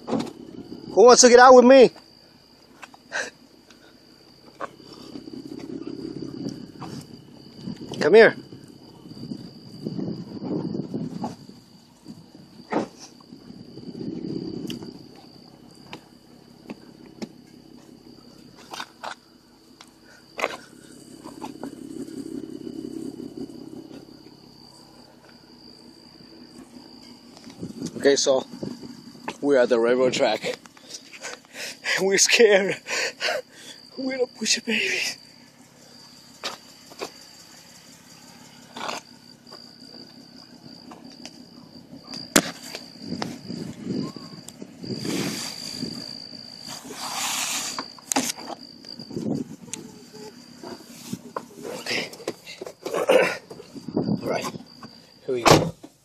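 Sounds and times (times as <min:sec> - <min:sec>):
insect drone: 0:00.0 - 0:56.0.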